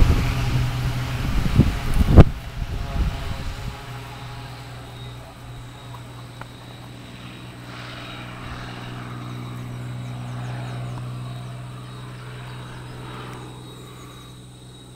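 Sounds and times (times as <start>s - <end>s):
propeller plane engine drone: 0.0s - 14.9s.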